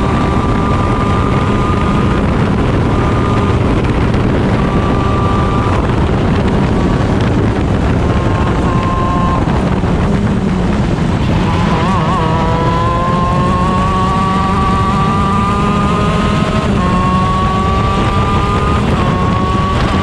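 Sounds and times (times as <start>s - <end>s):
kart two-stroke engine racing: 0.0s - 20.0s.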